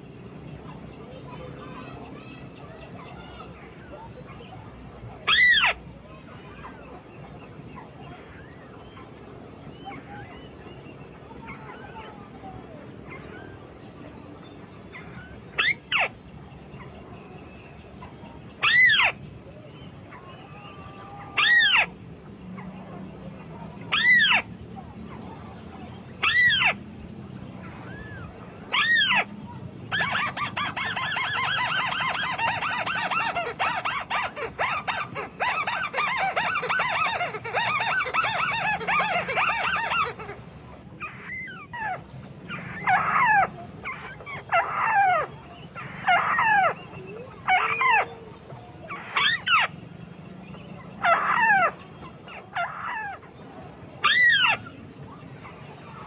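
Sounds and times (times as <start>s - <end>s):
bird calls: 0.0s - 56.0s
bird chattering run: 0.0s - 56.0s.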